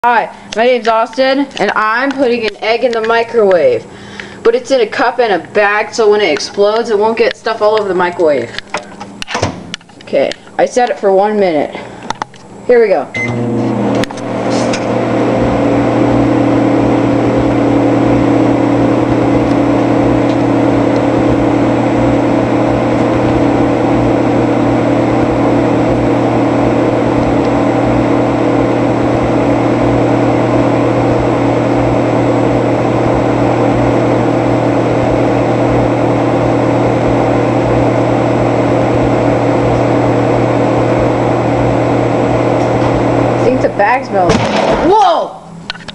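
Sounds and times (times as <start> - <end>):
microwave oven humming: 0.0 - 45.9.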